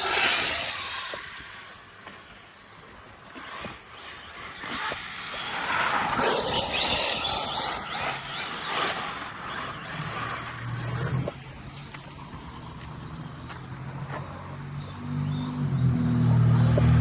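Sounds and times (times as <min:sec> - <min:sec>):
tyres crunching gravel: 0:00.0 - 0:14.8
electric motor whine: 0:00.0 - 0:17.0.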